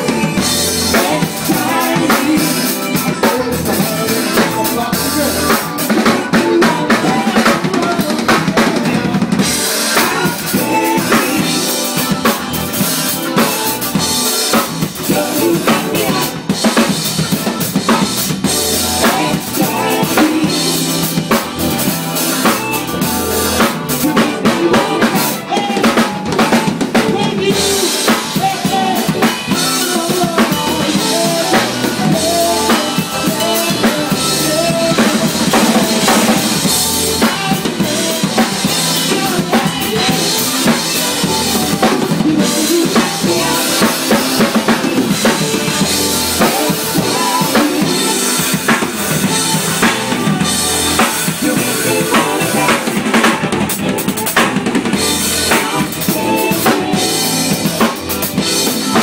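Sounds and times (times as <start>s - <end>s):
live band playing: 0.0s - 59.0s.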